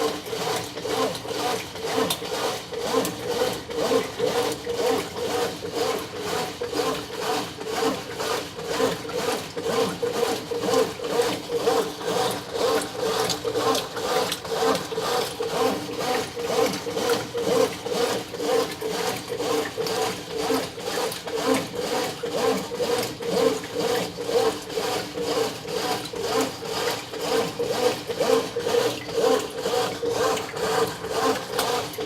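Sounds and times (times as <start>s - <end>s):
washing machine agitating: 0.0s - 32.0s.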